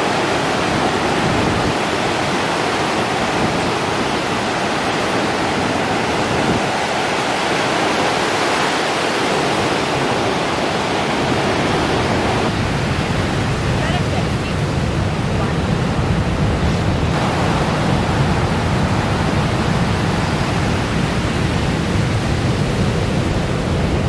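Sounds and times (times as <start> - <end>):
heavy surf breaking: 0.0 - 24.0
whitewater rushing: 0.0 - 24.0.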